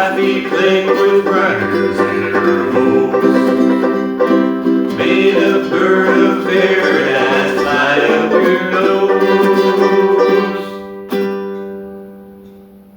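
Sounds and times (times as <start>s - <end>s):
ukulele strumming chords: 0.0s - 12.6s.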